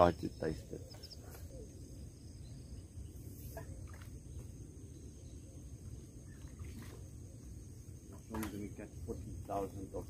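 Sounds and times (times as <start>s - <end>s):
faint bird chirps: 0.0s - 10.0s
insect drone: 0.0s - 10.0s.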